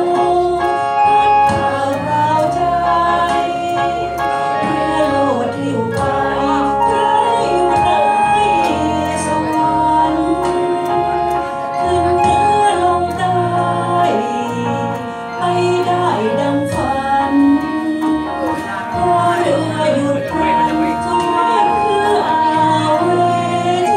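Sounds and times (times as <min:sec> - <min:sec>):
karaoke backing track: 0:00.0 - 0:23.9
woman singing through microphone: 0:00.0 - 0:23.9.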